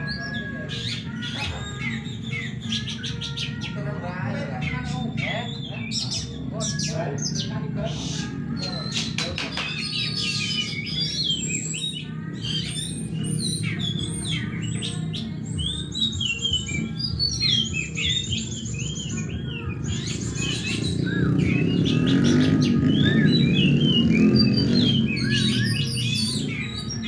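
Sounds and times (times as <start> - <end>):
birds singing whistled phrases: 0.0 - 27.0.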